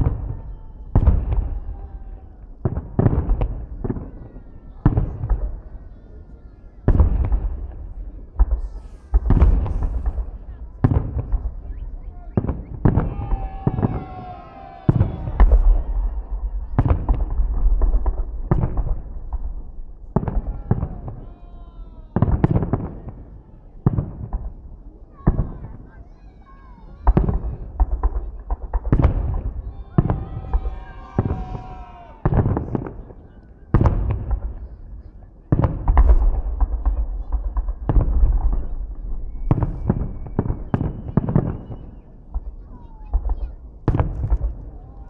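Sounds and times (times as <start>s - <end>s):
fireworks bursting bangs: 0.0s - 5.8s, 6.8s - 45.0s.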